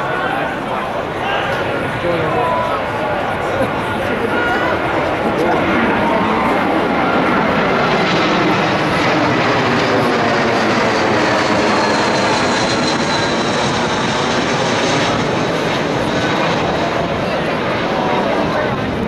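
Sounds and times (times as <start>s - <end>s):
aeroplane passing overhead: 0.0s - 19.0s.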